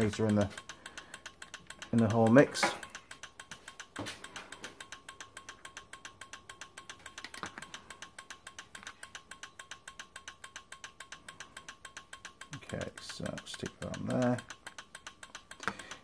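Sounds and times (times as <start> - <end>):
faint steady whine: 0.0 - 16.0
rapid even clicking: 0.0 - 16.0
test leads knocking: 0.0 - 16.0.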